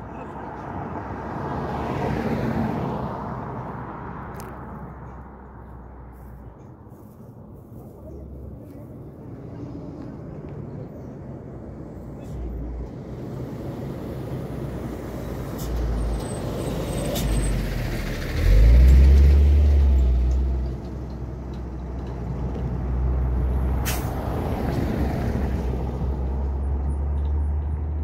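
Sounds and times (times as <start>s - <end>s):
truck passing with low rumble: 0.0s - 28.0s
van engine rumble: 2.6s - 28.0s.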